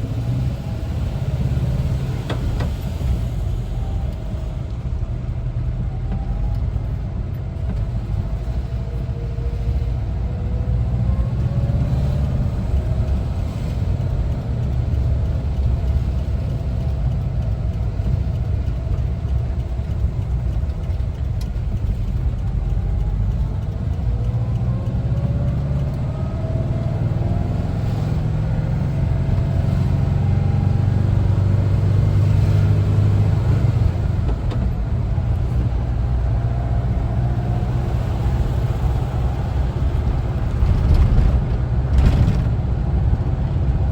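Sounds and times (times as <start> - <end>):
van engine low rumble: 0.0 - 43.9.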